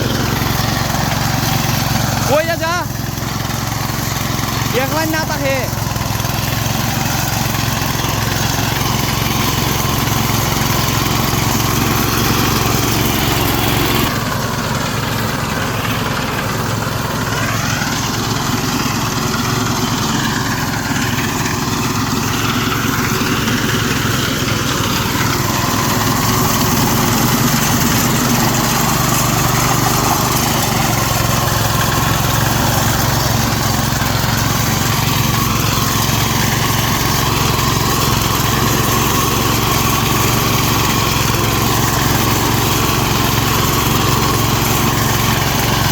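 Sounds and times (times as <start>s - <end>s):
harvester engine running: 0.0s - 45.9s.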